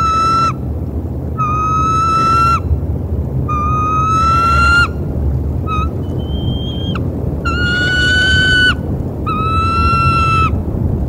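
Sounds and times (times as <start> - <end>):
tree limbs squealing: 0.0 - 0.7, 1.3 - 10.6
steady low rumble: 0.0 - 11.0.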